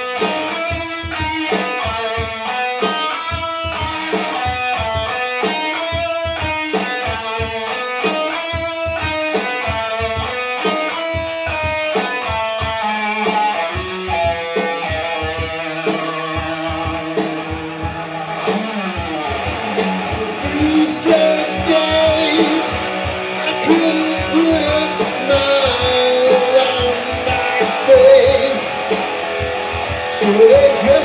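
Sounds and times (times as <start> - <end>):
steady rock beat: 0.0 - 31.0.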